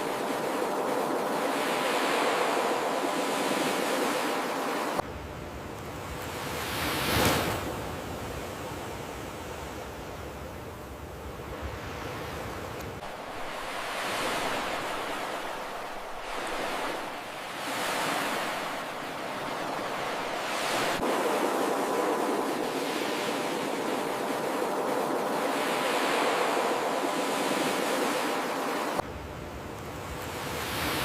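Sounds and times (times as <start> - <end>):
waves breaking on shore: 0.0 - 5.0, 5.9 - 10.3, 11.2 - 29.0, 29.9 - 31.0.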